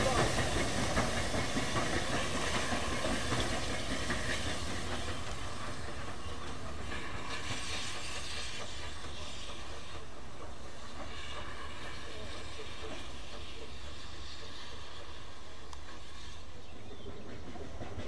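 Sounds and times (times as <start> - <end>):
locomotive rumble: 0.0 - 18.0
steam hissing: 0.0 - 18.0
steam locomotive chuffing: 0.0 - 18.0.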